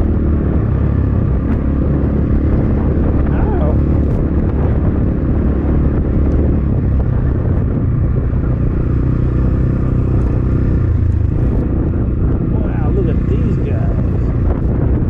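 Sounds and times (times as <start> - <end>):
dirt bike engine running: 0.0 - 15.0
wind rumble on microphone: 0.0 - 15.0.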